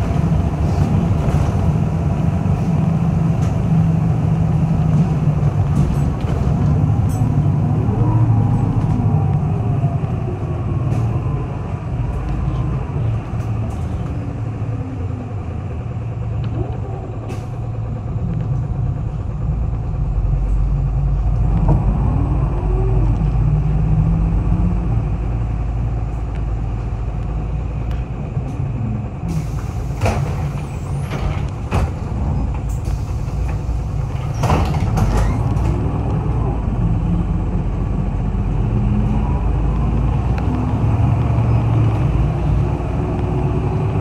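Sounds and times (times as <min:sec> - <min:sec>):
bus engine running: 0:00.0 - 0:44.0.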